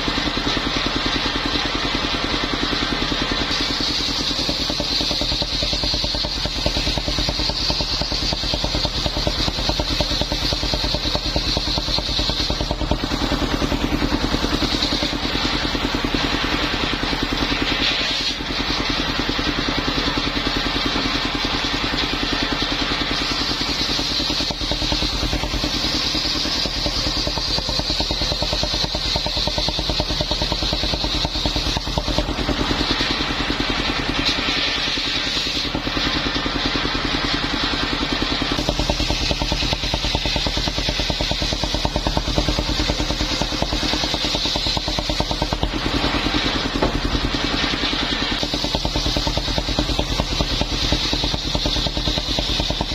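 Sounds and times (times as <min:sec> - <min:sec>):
saw blade whine: 0:00.0 - 0:52.9
sawmill engine pulsing: 0:00.0 - 0:52.9.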